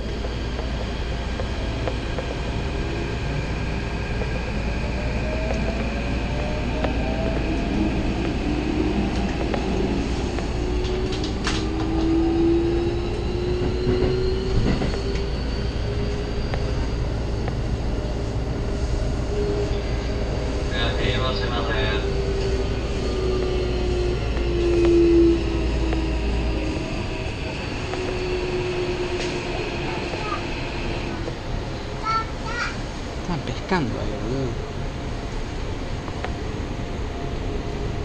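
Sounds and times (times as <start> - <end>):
wheels rumbling on track: 0.0 - 38.0.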